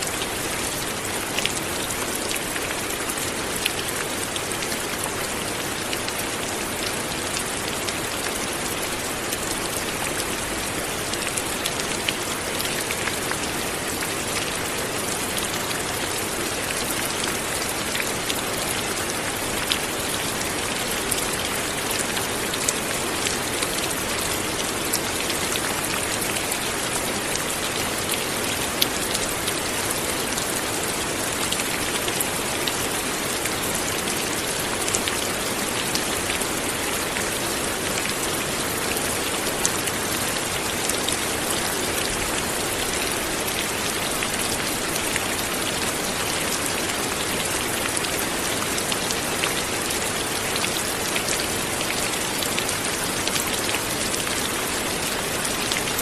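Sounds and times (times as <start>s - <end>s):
raindrops ticking on surfaces: 0.0s - 56.0s.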